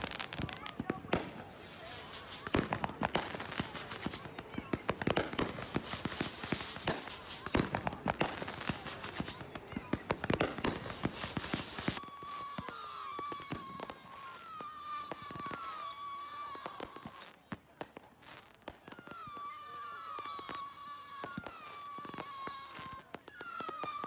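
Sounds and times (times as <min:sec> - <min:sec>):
steady high whistling tone: 0:00.0 - 0:17.3, 0:18.3 - 0:24.0
falling whistles: 0:00.0 - 0:24.0
fireworks crackling and popping: 0:00.0 - 0:24.0.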